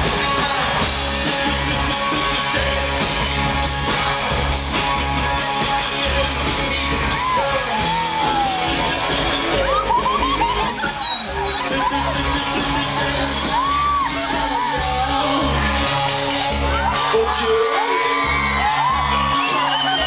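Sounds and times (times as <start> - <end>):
live rock music: 0.0 - 20.0.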